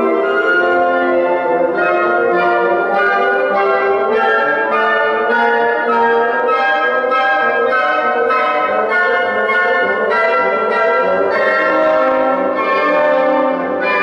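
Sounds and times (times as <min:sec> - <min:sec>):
wind ensemble playing: 0:00.0 - 0:14.0.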